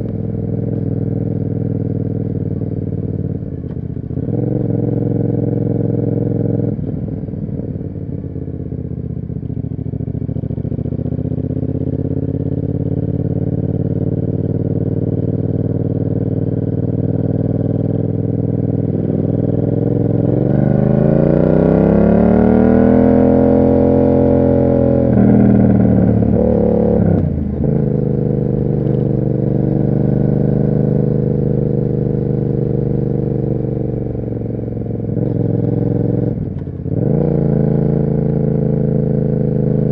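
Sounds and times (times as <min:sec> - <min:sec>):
motorcycle engine revving: 0:00.0 - 0:08.9, 0:09.6 - 0:39.9.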